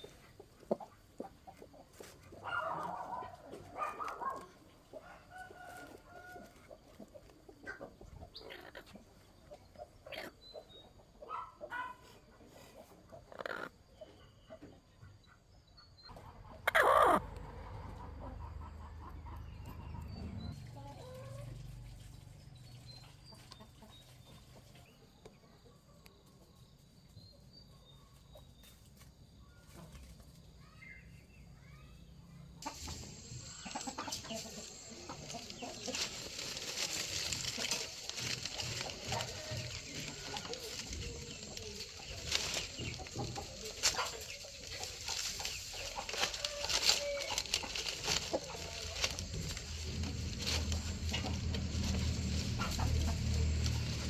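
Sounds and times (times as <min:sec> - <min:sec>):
chickens clucking: 0:00.0 - 0:26.8, 0:32.6 - 0:54.0.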